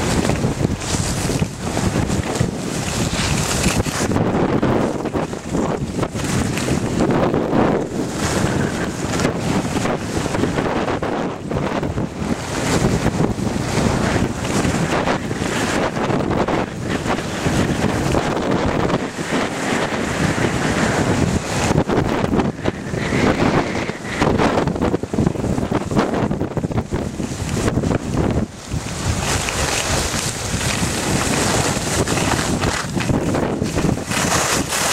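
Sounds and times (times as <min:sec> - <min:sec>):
skis scraping on hard snow: 0:00.0 - 0:34.9
wind buffeting microphone: 0:00.0 - 0:34.9.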